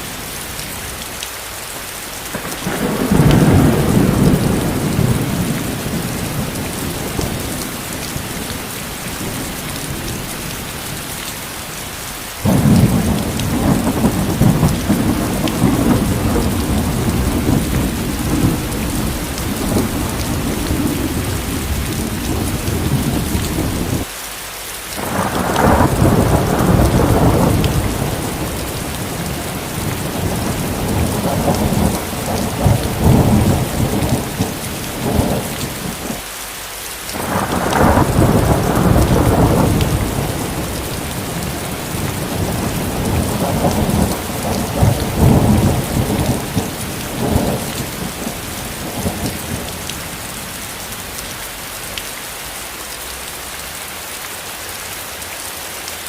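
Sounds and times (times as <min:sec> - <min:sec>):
heavy rain: 0:00.0 - 0:56.0
rolling thunder: 0:02.3 - 0:11.0, 0:12.4 - 0:24.1, 0:25.0 - 0:36.2, 0:37.2 - 0:50.7.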